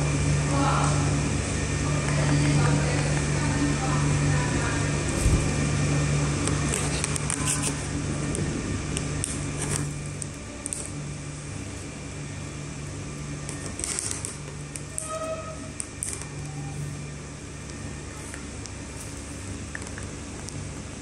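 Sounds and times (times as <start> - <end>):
projector cooling fan hum: 0.0 - 21.0.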